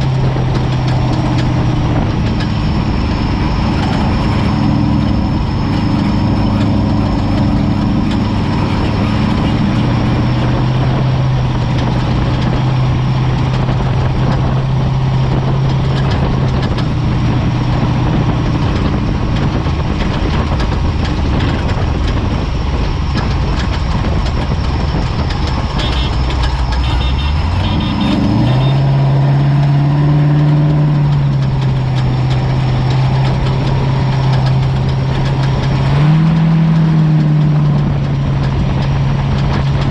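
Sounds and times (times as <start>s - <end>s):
engine revving up: 0.0s - 22.4s, 23.1s - 39.9s
off-road vehicle engine running: 0.0s - 39.9s.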